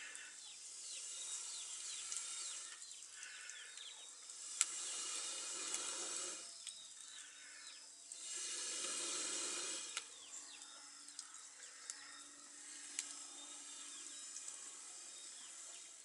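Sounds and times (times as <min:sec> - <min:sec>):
bird chirping: 0:00.0 - 0:16.0
sausages frying in oil: 0:00.0 - 0:16.0.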